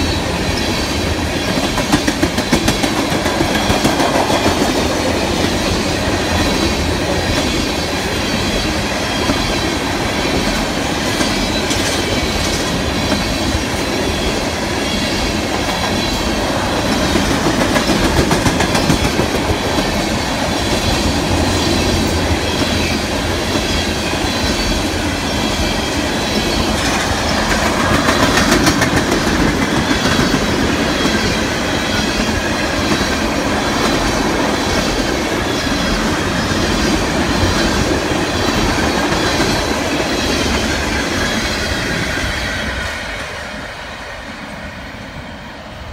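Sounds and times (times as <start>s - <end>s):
train clickety-clack: 0.0s - 45.9s
train wheels rumbling on rails: 0.0s - 45.9s.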